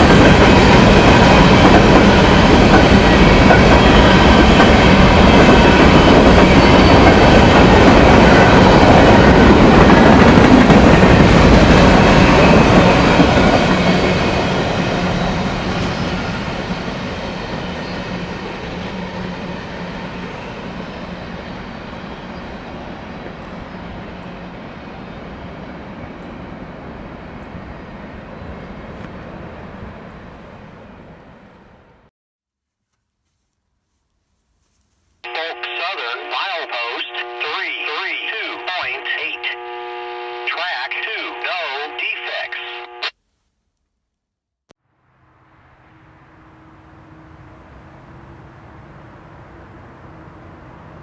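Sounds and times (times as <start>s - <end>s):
train passing on rails: 0.0s - 32.1s, 35.2s - 43.1s, 45.0s - 51.0s.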